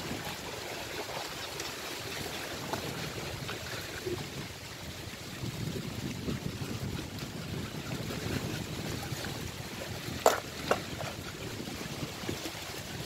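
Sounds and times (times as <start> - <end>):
small waves washing against rocks: 0.0 - 13.0
wind on microphone: 0.0 - 13.0.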